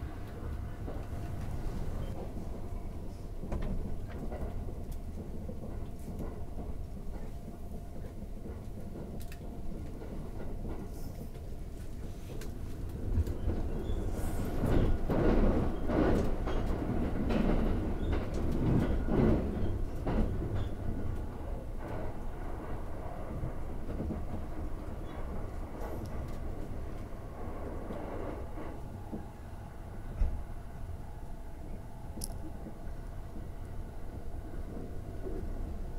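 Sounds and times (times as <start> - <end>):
rail clicks: 0.0 - 30.8, 32.0 - 35.9
train wheels rumbling: 0.0 - 35.9.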